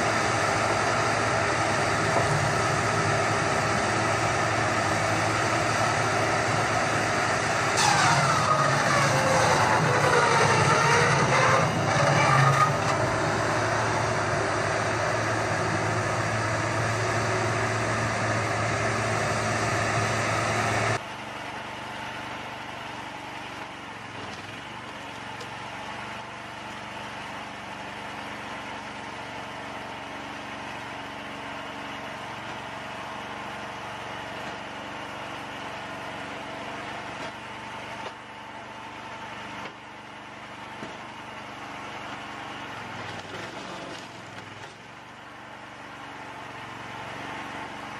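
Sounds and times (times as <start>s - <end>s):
engine and circular saw cutting logs: 0.0s - 47.9s.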